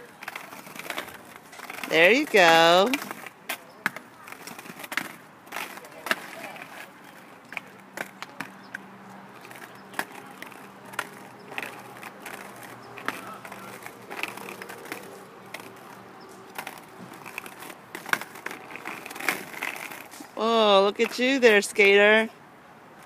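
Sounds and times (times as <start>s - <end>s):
skate wheels rolling on asphalt: 0.0s - 23.0s
skates clacking on road: 0.0s - 23.0s.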